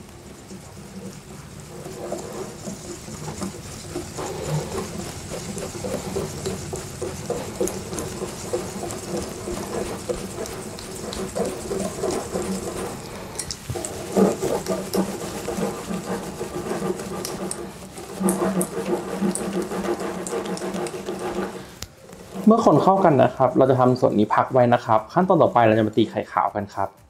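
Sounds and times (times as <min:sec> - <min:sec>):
whisk beating batter in glass bowl: 0:00.0 - 0:27.0.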